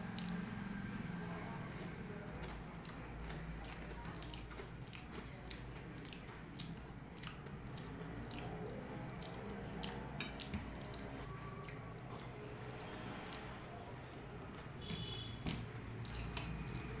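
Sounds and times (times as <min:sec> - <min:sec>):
person chewing wetly: 0:00.1 - 0:00.9, 0:01.6 - 0:17.0.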